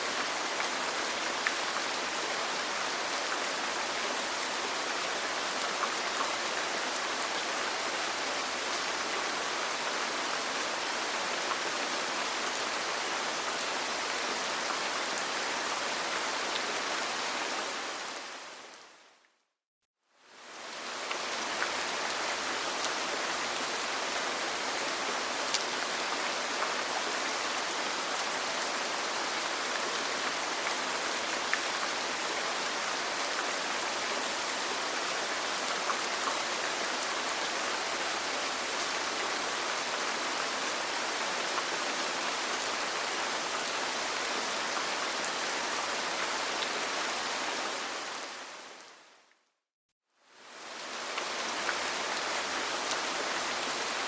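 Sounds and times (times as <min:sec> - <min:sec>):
rain falling on a roof: 0:00.0 - 0:19.2, 0:20.2 - 0:49.3, 0:50.2 - 0:54.0.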